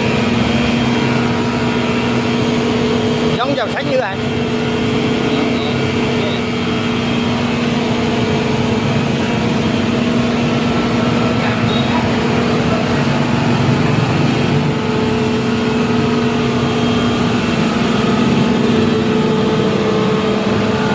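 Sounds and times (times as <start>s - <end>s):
electric wood planer running: 0.0s - 20.9s.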